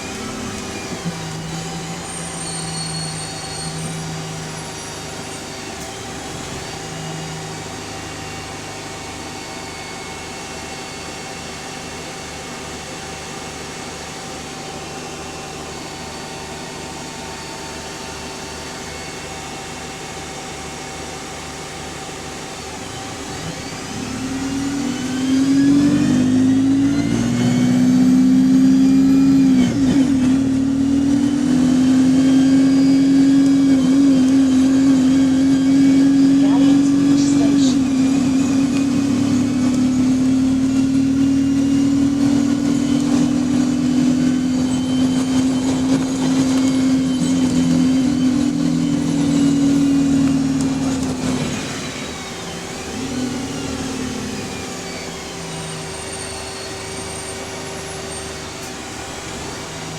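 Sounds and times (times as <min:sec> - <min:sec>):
diesel bus engine: 0:00.0 - 0:59.9
gearbox whine rising: 0:00.0 - 0:59.9.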